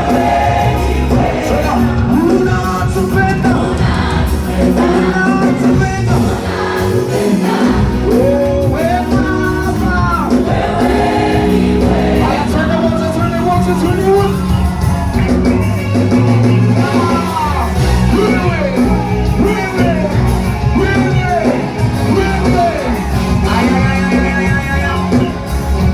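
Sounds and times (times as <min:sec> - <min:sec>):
choir singing gospel: 0:00.0 - 0:25.9
instrumental backing: 0:00.0 - 0:25.9.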